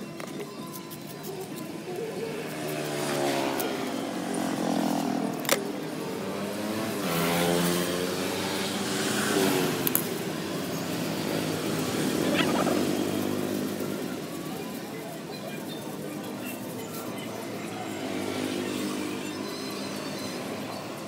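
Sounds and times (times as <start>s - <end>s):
motorbikes and cars passing: 1.2s - 21.0s.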